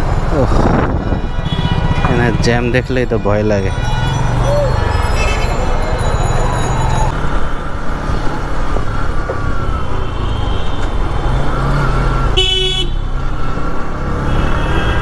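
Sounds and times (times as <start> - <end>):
traffic engines and road noise: 0.0 - 15.0.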